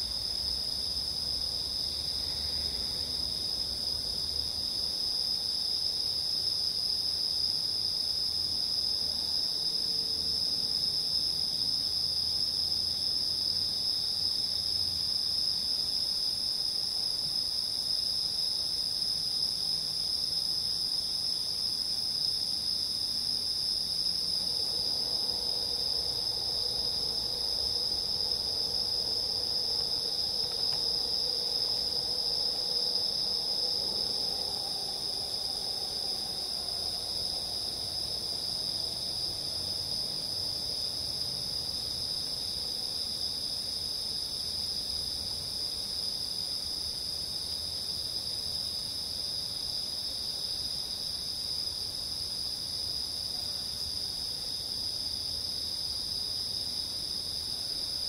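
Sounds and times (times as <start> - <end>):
crickets and insects chirping: 0.0 - 58.0.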